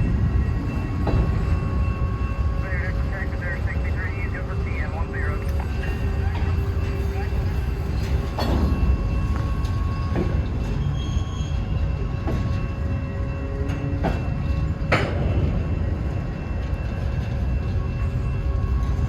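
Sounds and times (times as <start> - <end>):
freight train rumbling past: 0.0 - 19.0
train wheels and couplers clanking: 0.0 - 19.0.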